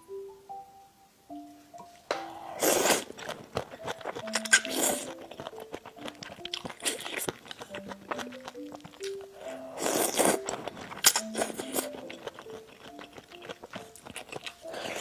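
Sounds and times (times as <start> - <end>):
soft background music: 0.0 - 15.0
person chewing and biting: 2.3 - 15.0.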